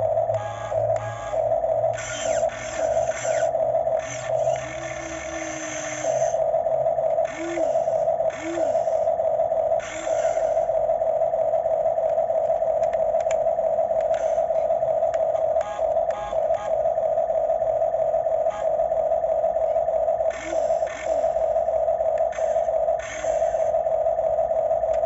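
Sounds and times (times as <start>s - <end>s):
electric motors whining: 0.0s - 25.0s
rising and falling whirs: 0.0s - 25.0s.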